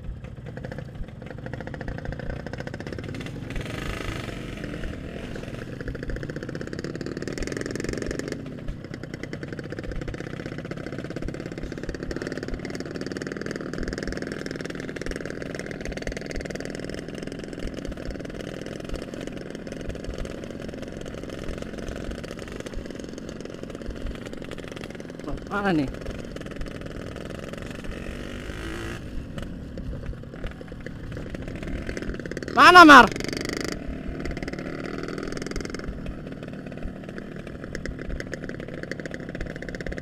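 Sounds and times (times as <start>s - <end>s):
two-stroke motorcycle engine running: 0.0s - 40.0s.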